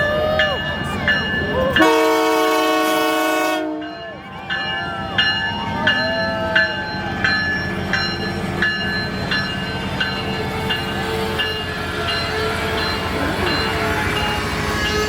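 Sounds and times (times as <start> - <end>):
railroad crossing bell ringing: 0.0 - 15.0
train rumbling past: 0.0 - 15.0.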